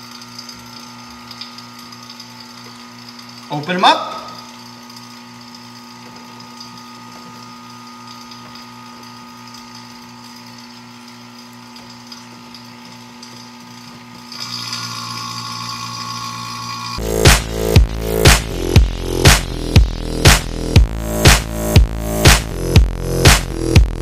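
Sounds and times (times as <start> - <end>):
vacuum pump running: 0.0 - 24.0.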